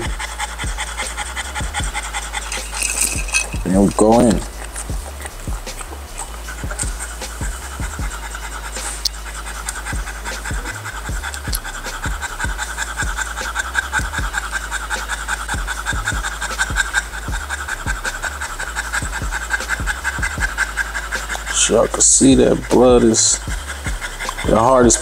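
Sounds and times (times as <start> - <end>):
dog panting rapidly: 0.0 - 25.0.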